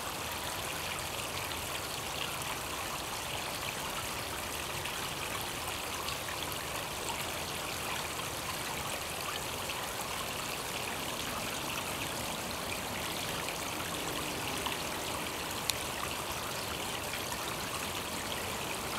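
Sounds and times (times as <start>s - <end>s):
pool waterfall splashing: 0.0s - 18.9s.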